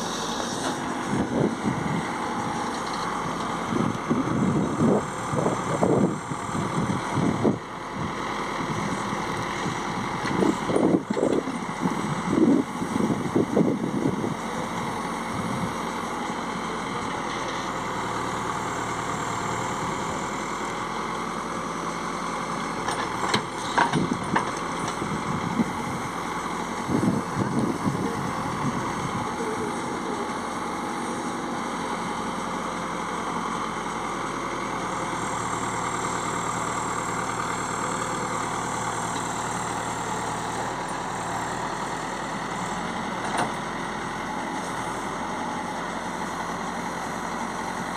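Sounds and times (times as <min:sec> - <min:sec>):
heavy diesel engine idling: 0:00.0 - 0:47.9.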